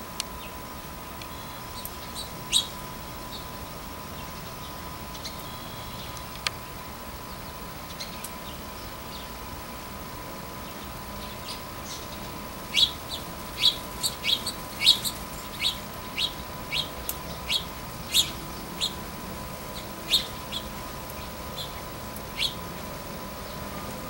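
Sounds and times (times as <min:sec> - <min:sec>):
songbird chirping: 0:00.2 - 0:09.6, 0:10.5 - 0:24.0.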